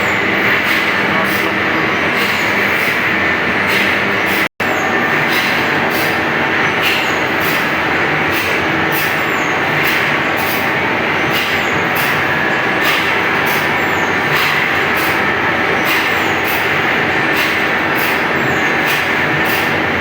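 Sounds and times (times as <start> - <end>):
saw sharpening machine grinding: 0.0 - 20.0.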